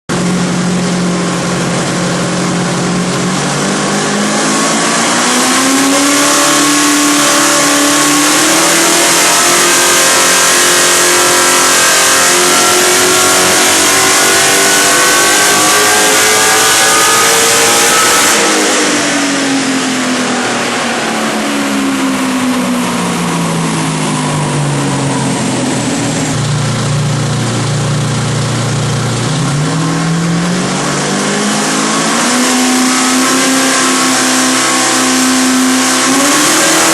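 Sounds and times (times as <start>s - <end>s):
car engine revving: 0.1s - 36.9s.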